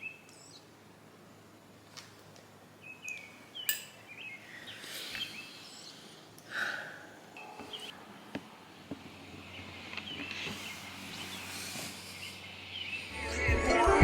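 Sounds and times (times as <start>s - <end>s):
low background hiss: 0.0s - 13.2s.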